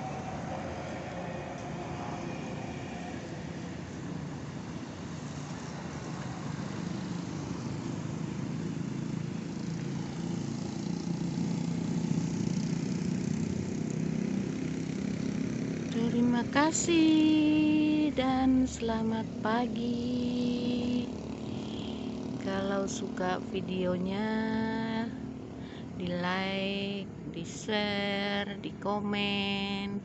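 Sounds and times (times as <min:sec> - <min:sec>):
street traffic passing: 0:00.0 - 0:30.0.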